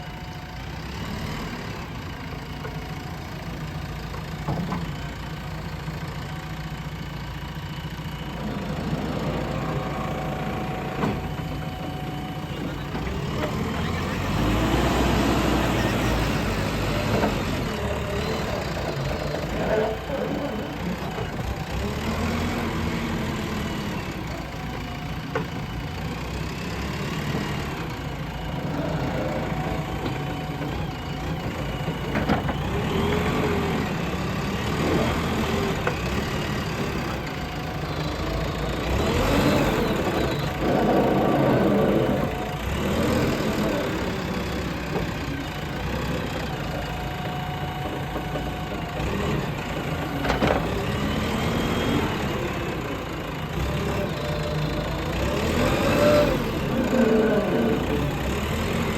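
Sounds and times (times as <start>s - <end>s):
diesel engine revving: 0.0s - 58.9s.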